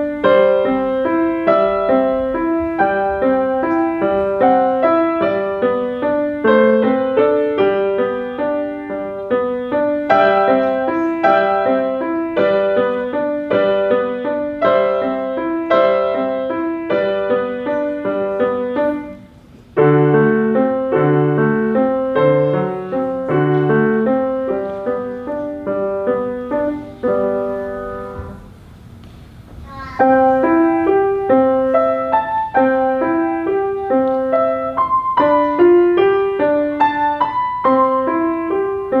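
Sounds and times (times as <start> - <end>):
solo piano classical piece: 0.0 - 39.0.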